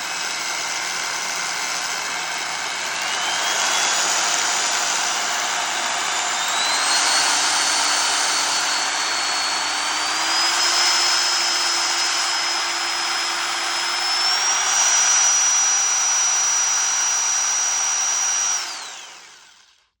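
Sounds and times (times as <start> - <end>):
reciprocating saw motor whine: 0.0 - 20.0.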